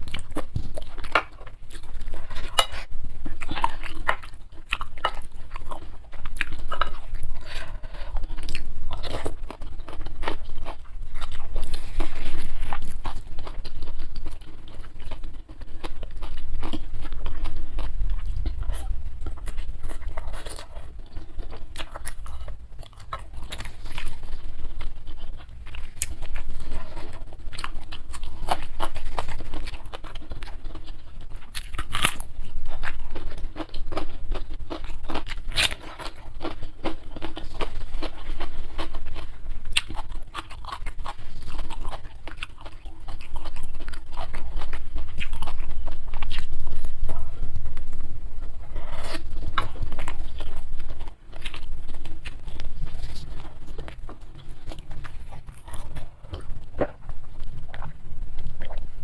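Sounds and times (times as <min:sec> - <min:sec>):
chewing with crunchy crackles: 0:00.0 - 0:59.0.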